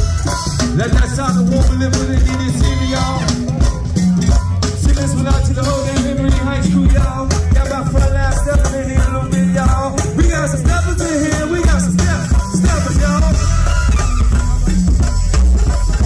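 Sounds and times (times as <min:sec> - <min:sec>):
band music through speakers: 0:00.0 - 0:16.0
person singing: 0:00.3 - 0:15.3.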